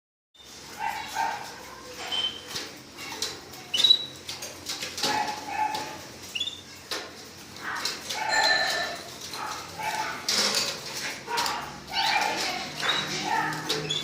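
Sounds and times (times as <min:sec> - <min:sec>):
canaries chirping: 0:00.4 - 0:14.0.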